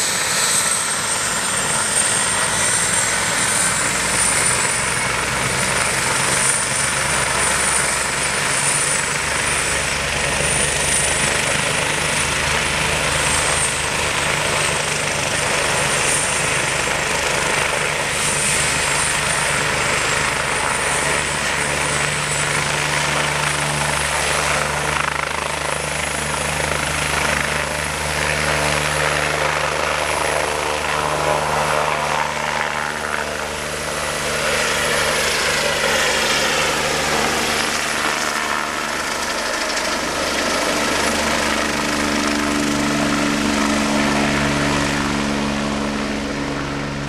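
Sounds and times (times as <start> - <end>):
helicopter rotor throb: 0.0 - 47.0
helicopter turbine whine: 0.0 - 47.0.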